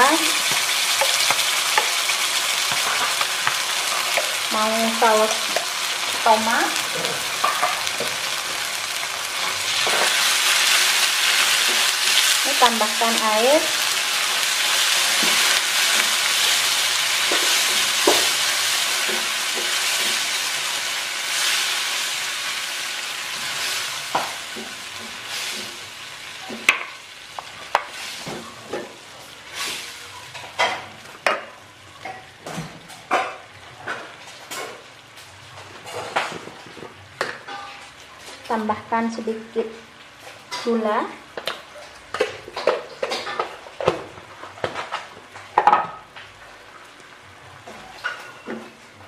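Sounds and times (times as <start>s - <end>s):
sauce sizzling in frying pan: 0.0s - 48.9s.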